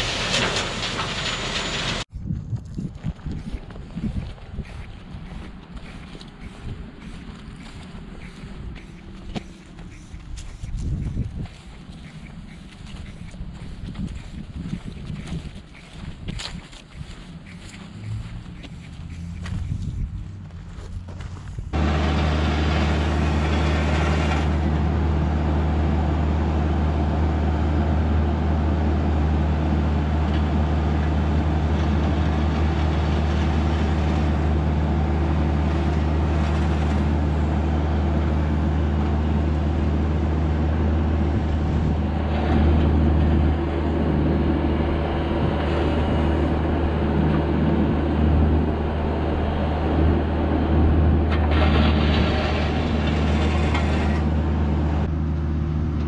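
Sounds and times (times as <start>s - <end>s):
excavator diesel engine running: 0.0s - 2.1s, 3.3s - 56.0s.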